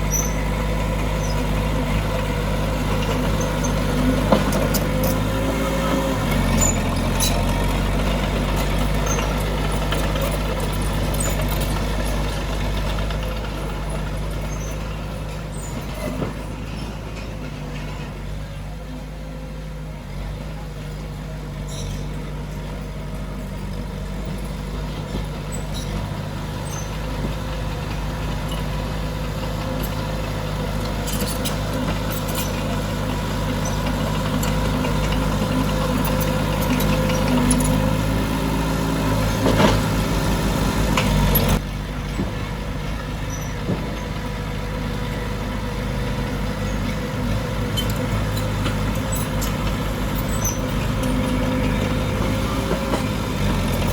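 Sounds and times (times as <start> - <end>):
heavy machinery diesel engine: 0.0 - 53.9.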